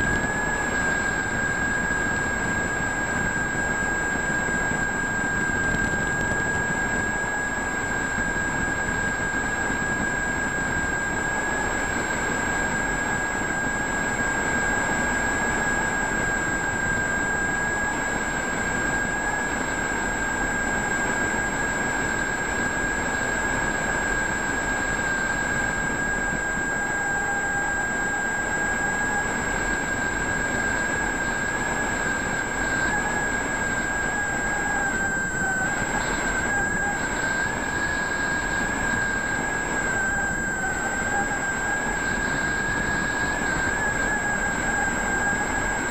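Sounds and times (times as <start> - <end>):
model plane motor whine: 0.0 - 45.9.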